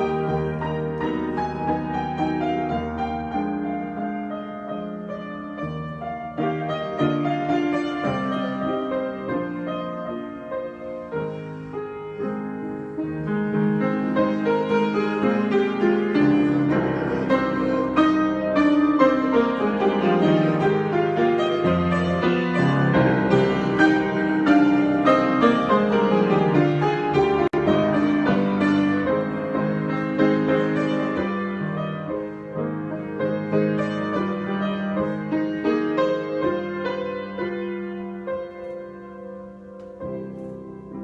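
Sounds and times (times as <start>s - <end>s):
piano improvisation: 0.0s - 41.0s.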